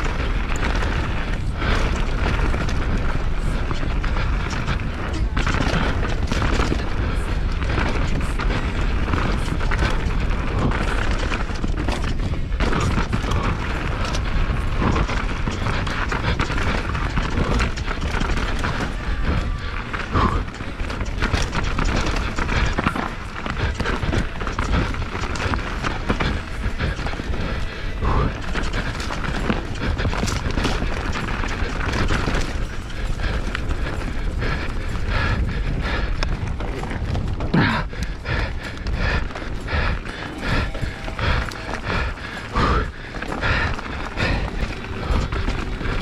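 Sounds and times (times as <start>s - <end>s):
bike rattling over roots and rocks: 0.0s - 46.0s.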